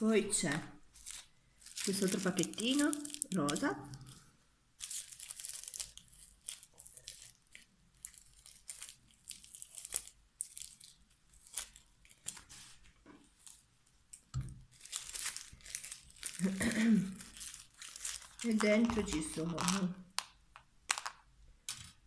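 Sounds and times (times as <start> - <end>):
cellophane bag rustling: 0.4 - 19.9.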